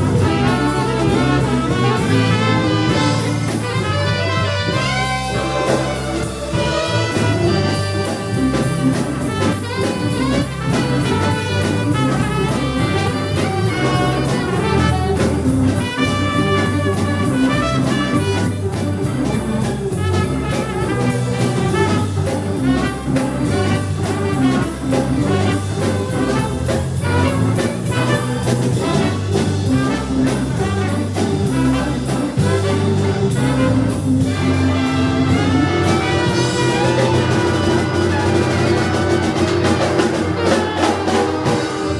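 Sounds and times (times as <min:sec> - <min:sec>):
bass: 0:00.0 - 0:41.9
drums keeping a beat: 0:00.0 - 0:41.9
horns playing melody: 0:00.0 - 0:41.9.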